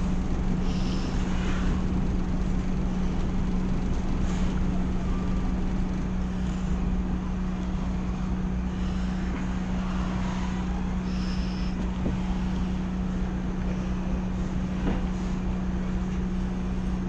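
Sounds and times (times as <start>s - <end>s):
ferry engine idling: 0.0s - 17.0s.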